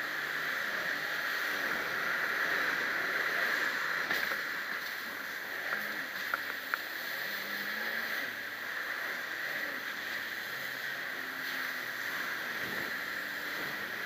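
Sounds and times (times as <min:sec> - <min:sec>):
jet ski engine drone: 0:00.0 - 0:14.0.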